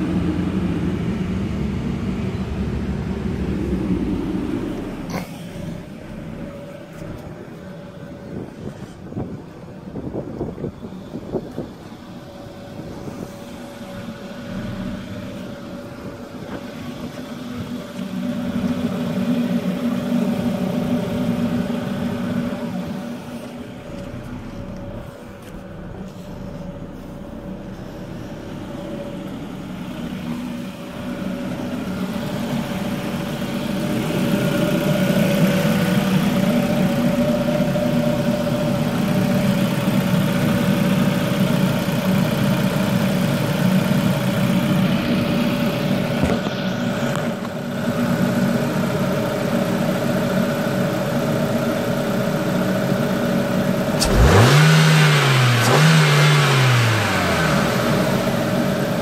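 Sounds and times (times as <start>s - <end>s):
car engine idling with whine: 0.0s - 59.0s.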